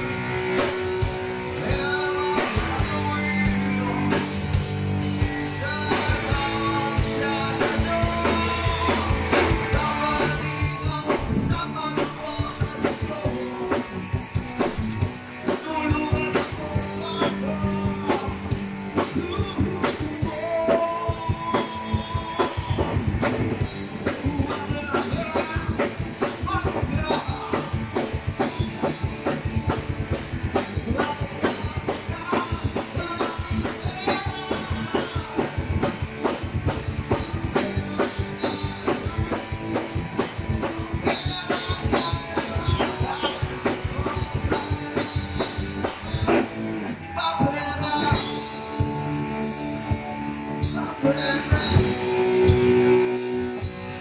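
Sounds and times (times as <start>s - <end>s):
drum kit beat: 0.0s - 54.0s
electric guitars: 0.0s - 54.0s
man singing lead vocals: 0.0s - 54.0s.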